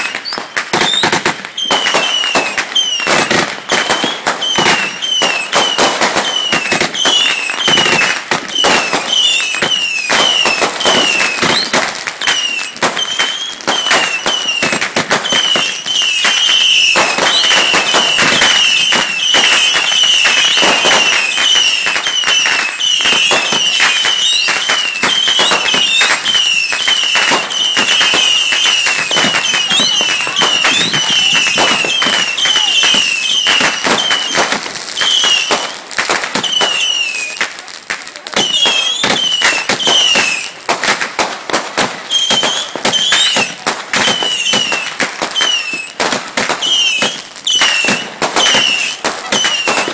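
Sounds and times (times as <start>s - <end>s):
fireworks crackling and popping: 0.0s - 49.9s
fireworks whistling: 0.0s - 49.9s.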